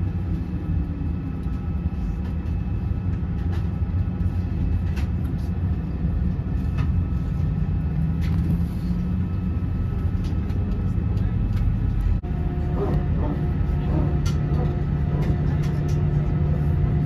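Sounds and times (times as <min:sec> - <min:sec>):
airliner cabin rumble: 0:00.0 - 0:17.0
faint jet engine whine: 0:00.0 - 0:17.0.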